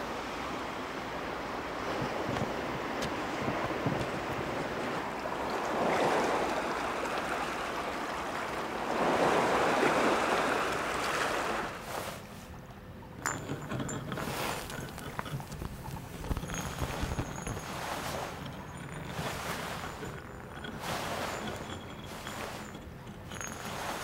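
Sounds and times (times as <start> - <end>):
sea waves against rocks: 0.0 - 12.4, 13.2 - 24.0.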